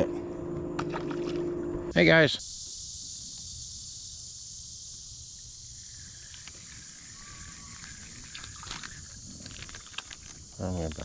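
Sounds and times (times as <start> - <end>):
high-pitched insect chorus: 0.8 - 11.0.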